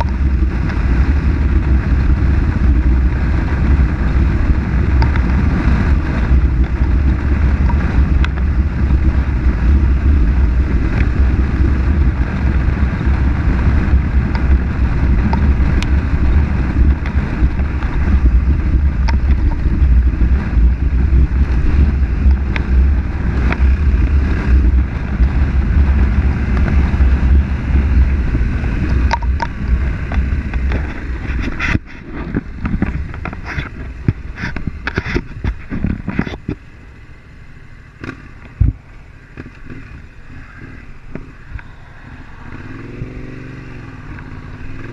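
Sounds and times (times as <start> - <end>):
wind buffeting on microphone: 0.0 - 36.7, 38.1 - 44.9
motorcycle engine low rumble: 0.0 - 44.9.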